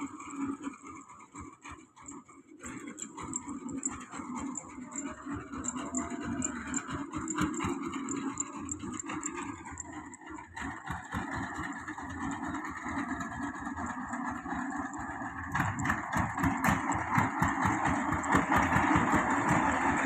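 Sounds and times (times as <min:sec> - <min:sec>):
engine pulsing rapidly: 0:00.0 - 0:20.0.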